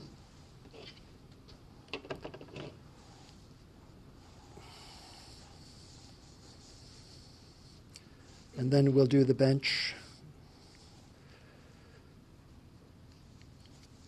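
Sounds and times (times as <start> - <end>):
soft hiss: 2.7 - 14.0.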